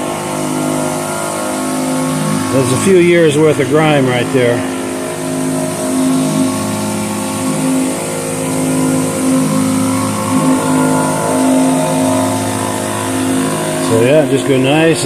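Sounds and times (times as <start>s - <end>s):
pressure washer motor hum: 0.0s - 15.0s.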